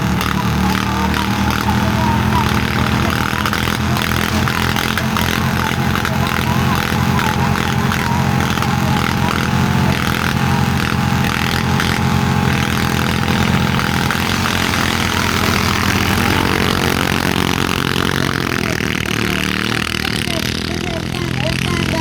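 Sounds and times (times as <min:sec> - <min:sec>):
loud tractor engines running: 0:00.0 - 0:22.0.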